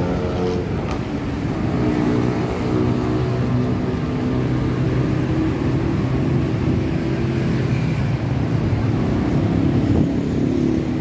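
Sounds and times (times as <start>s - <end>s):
road traffic engines humming: 0.0s - 11.0s.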